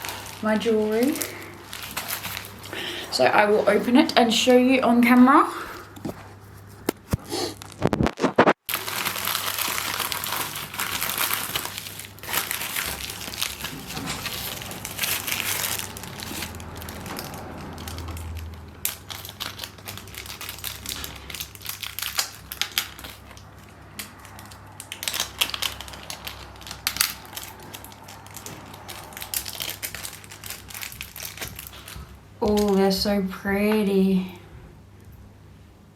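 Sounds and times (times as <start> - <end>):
packaging crinkling and rustling: 0.0 - 5.2, 5.8 - 33.1.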